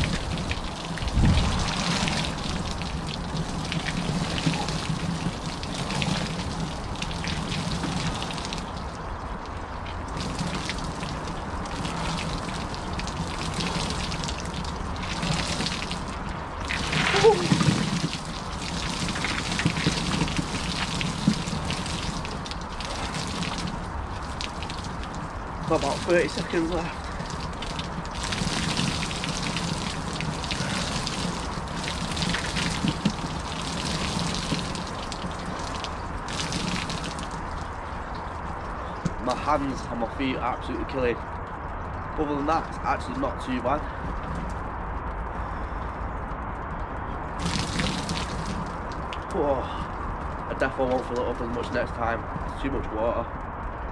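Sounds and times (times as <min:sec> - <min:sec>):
water splattering onto ground: 0:00.0 - 0:45.7, 0:46.7 - 0:53.9.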